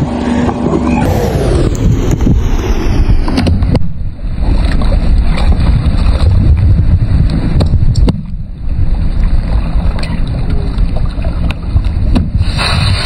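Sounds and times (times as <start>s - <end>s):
heavy low rumble: 0.0s - 13.0s.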